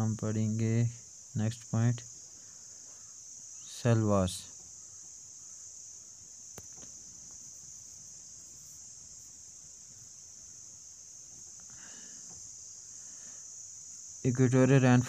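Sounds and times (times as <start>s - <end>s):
high-pitched background whine: 0.0s - 15.0s.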